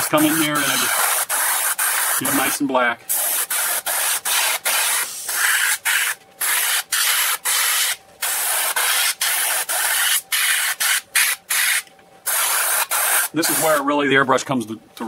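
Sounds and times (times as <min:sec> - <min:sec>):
airbrush spraying hiss: 0:00.0 - 0:13.8.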